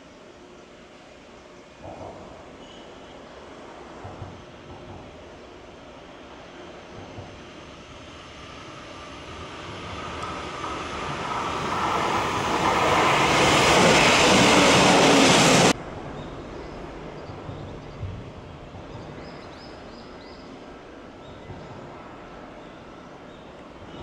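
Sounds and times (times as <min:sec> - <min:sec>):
electric train passing: 0:02.4 - 0:24.0.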